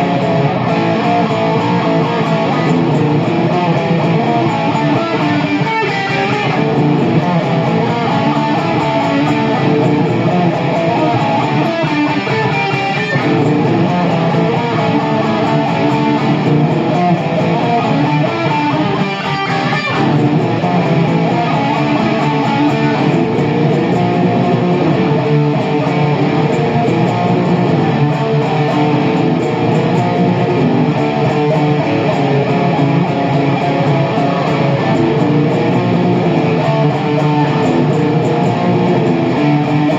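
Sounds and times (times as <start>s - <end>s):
guitar music: 0.0s - 39.9s.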